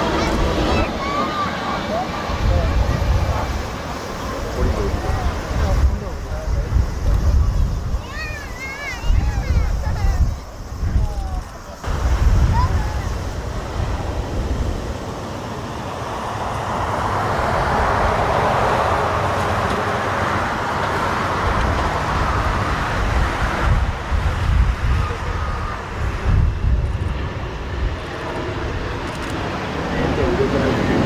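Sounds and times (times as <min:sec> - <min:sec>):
jet engines roaring: 0:00.0 - 0:31.0
wind buffeting microphone: 0:00.0 - 0:31.0.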